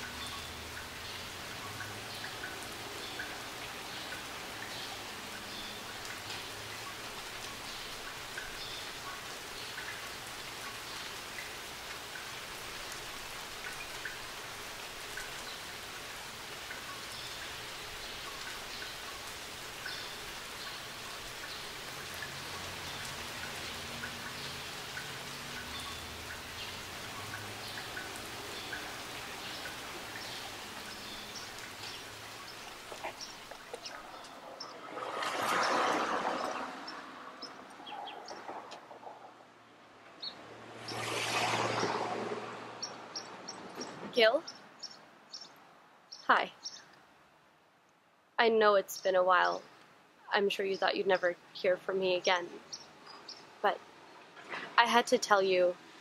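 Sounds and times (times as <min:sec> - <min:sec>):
steady hiss with ticking patter: 0:00.0 - 0:41.0, 0:42.8 - 0:56.0.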